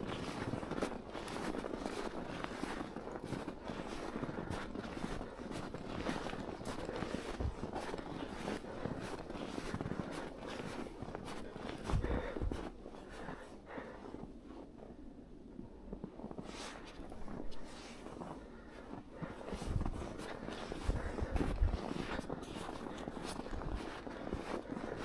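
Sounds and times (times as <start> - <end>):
footsteps crunching through snow: 0.0 - 14.9, 15.8 - 25.0.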